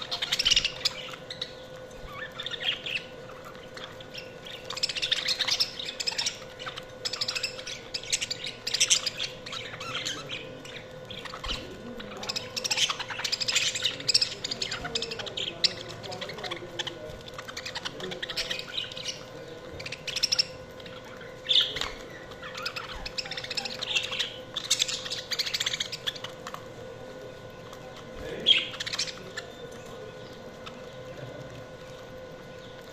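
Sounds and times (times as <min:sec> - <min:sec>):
budgerigars chirping and squawking: 0:00.0 - 0:26.7, 0:27.4 - 0:31.2.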